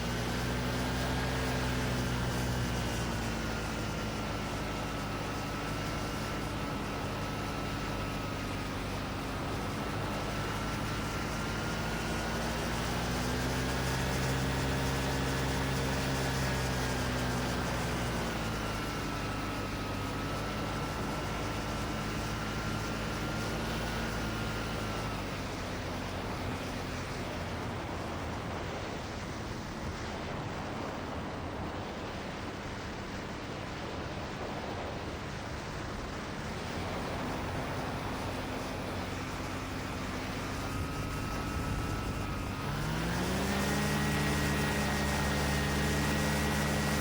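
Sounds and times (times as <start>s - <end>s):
rush of wind: 0.0s - 47.0s
ultralight engine and propeller: 0.0s - 47.0s.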